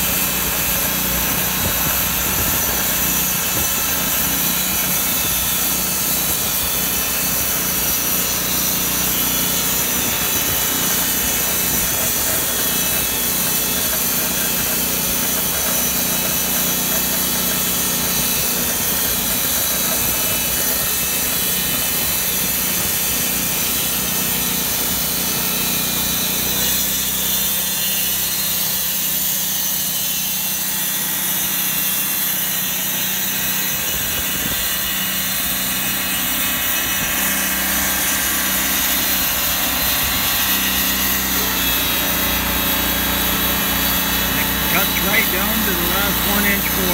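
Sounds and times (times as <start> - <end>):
band sawmill sawing log: 0.0 - 46.9.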